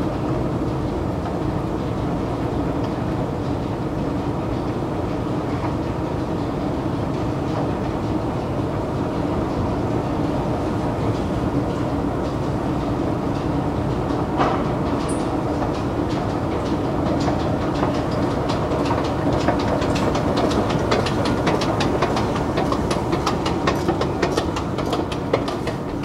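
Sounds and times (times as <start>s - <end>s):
escalator machinery rumbling: 0.0s - 26.0s.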